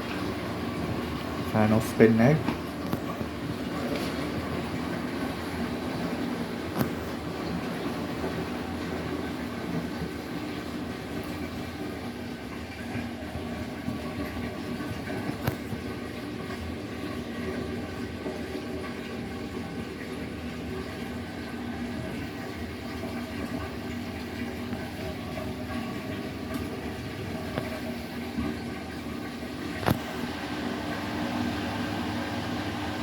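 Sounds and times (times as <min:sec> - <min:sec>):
washing machine spinning: 0:00.0 - 0:33.0.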